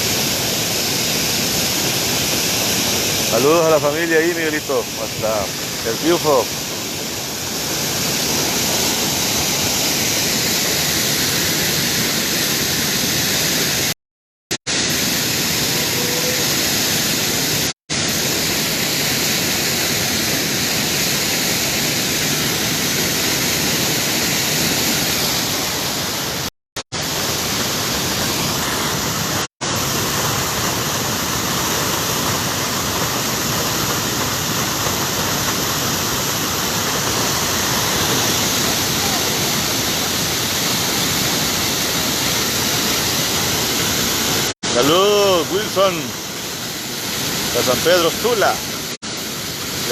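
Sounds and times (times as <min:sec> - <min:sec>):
waterfall rushing: 0:00.0 - 0:13.9, 0:14.7 - 0:49.9.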